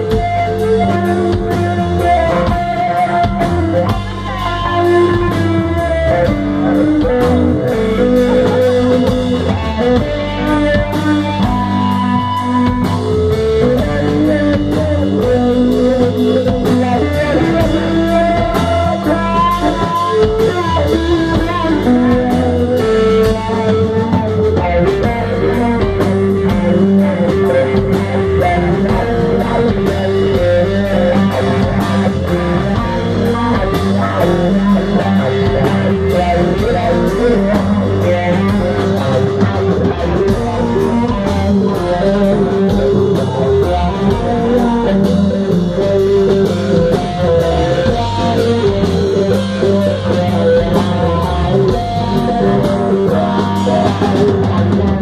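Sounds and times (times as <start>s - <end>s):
drum and cymbal hits: 0.0s - 55.0s
electric guitars: 0.0s - 55.0s
rock band playing: 0.0s - 55.0s.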